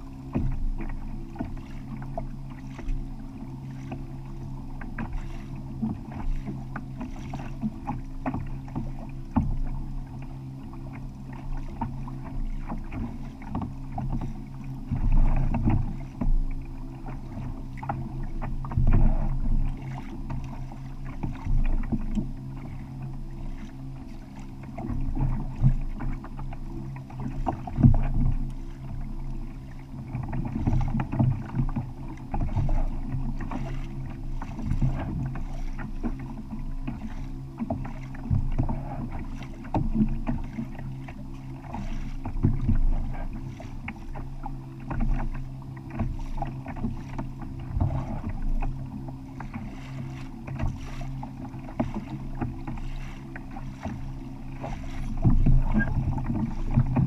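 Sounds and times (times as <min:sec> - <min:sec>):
steady low hum: 0:00.0 - 0:57.0
water slapping against kayak hull: 0:00.0 - 0:57.0.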